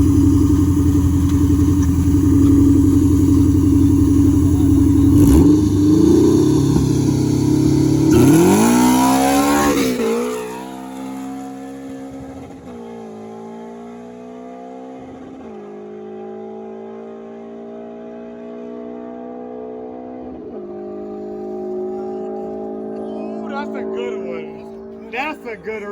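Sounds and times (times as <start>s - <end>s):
car engine accelerating hard: 0.0s - 25.9s.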